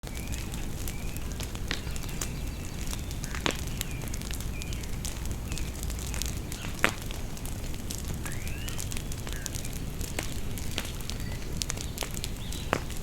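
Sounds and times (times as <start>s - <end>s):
bonfire crackling and popping: 0.0s - 13.0s
small birds chirping: 0.0s - 13.0s.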